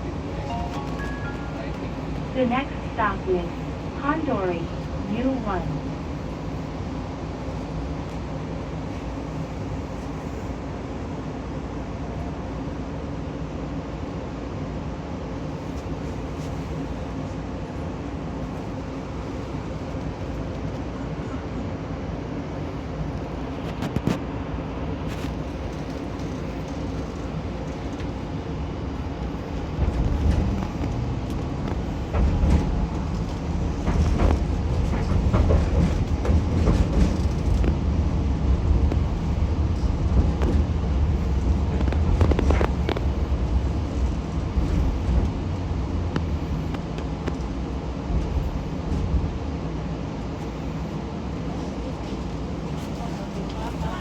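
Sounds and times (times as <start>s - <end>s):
tram motor and rolling rumble: 0.0s - 54.0s.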